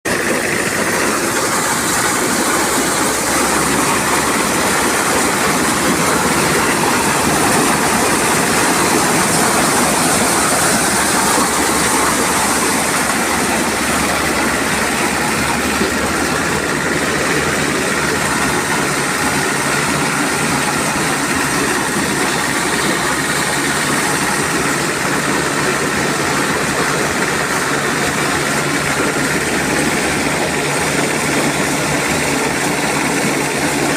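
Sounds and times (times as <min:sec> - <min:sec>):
car engine drone: 0:00.0 - 0:33.9
corn sheller rattling: 0:00.1 - 0:33.9.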